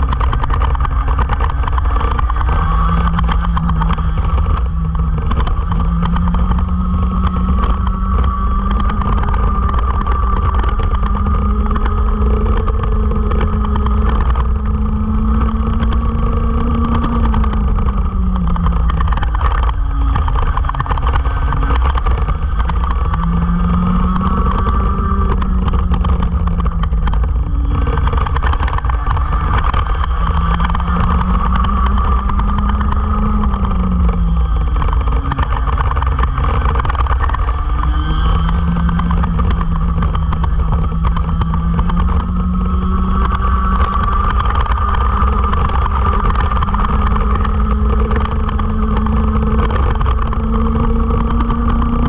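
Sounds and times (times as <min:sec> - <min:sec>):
go-kart engine at speed: 0:00.0 - 0:52.0
low wind rumble on camera: 0:00.0 - 0:52.0.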